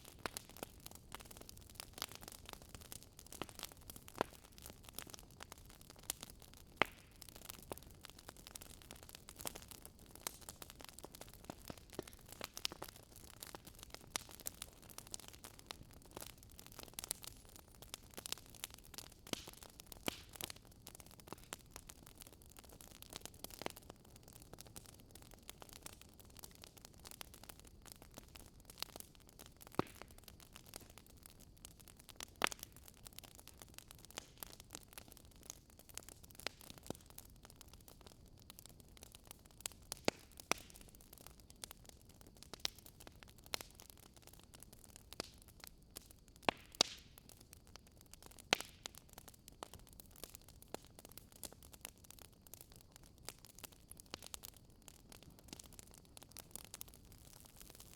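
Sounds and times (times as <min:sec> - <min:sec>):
faint steady hiss: 0:00.0 - 0:57.9
wood fire crackling and popping: 0:00.0 - 0:57.9.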